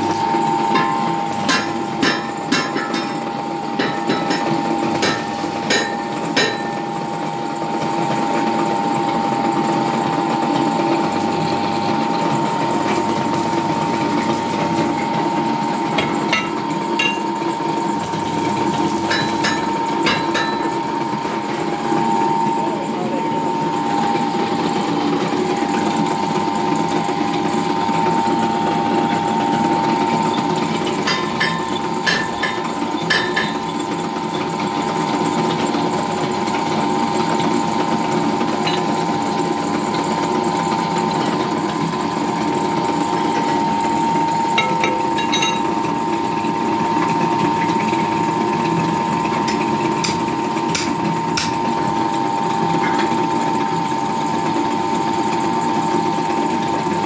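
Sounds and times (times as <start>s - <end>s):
drill press drilling metal: 0.0s - 22.9s, 23.5s - 57.0s.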